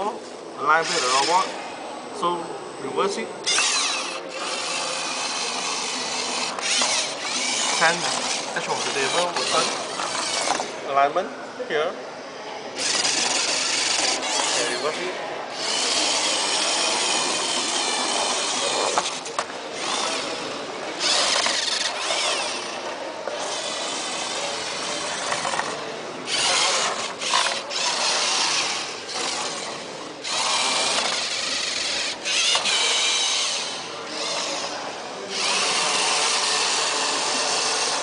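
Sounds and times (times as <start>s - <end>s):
small electric motors whining: 0.7s - 1.6s, 3.4s - 10.8s, 12.8s - 38.0s.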